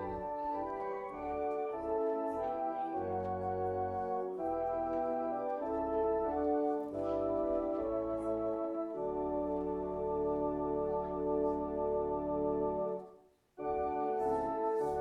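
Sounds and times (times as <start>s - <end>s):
church organ playing a hymn: 0.0s - 15.0s.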